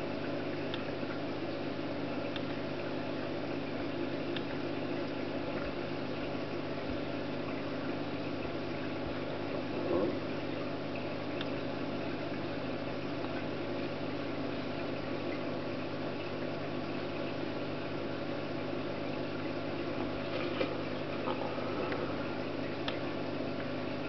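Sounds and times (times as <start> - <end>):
mechanical hum with hiss: 0.0 - 24.0.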